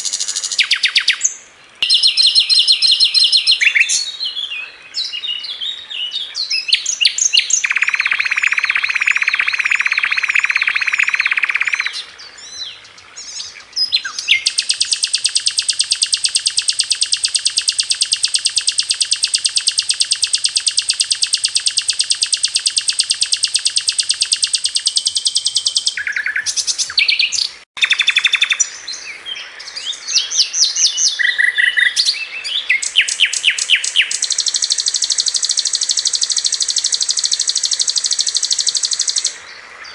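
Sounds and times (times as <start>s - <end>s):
songbird trilling: 0.0s - 39.6s
bird chirps: 0.0s - 39.9s.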